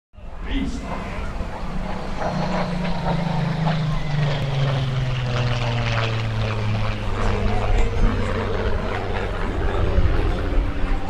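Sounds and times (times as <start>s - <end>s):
propeller plane engine droning: 0.2s - 11.0s.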